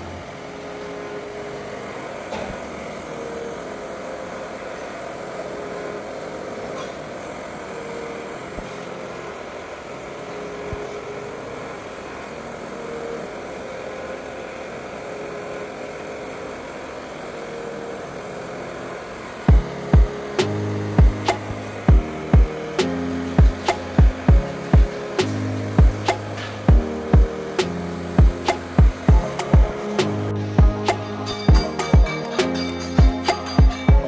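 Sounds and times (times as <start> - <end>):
gas torch hissing: 0.0 - 33.9.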